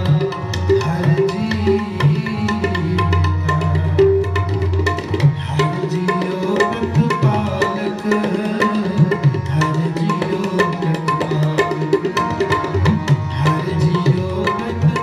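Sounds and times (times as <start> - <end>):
tabla playing fast strokes: 0.0 - 15.0.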